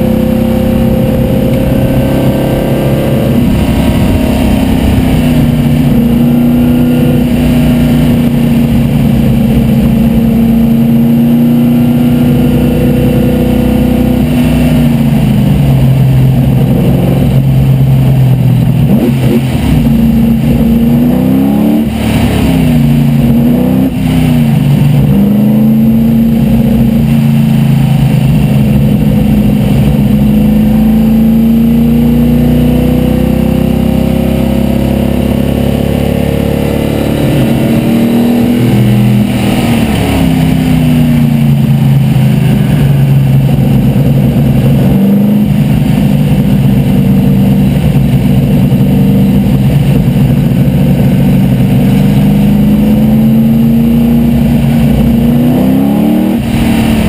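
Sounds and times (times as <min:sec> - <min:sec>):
race car engine at high revs: 0:00.0 - 0:57.0
wind and road noise: 0:00.0 - 0:57.0.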